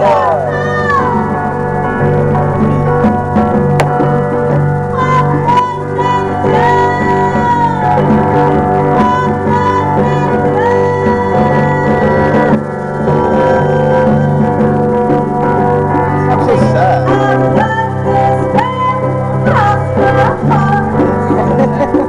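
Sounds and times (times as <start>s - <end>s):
bass line: 0.0s - 22.0s
electric guitar sliding notes: 0.0s - 22.0s.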